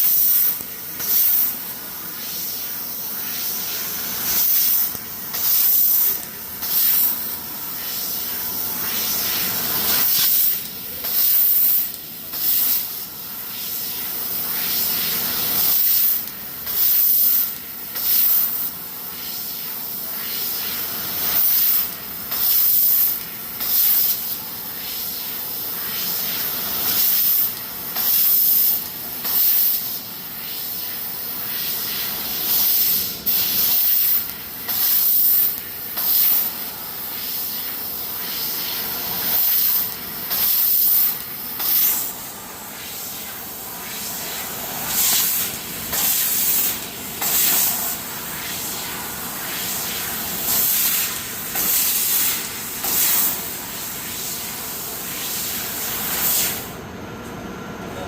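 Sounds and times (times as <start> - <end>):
laser cutter hissing: 0.0 - 56.9.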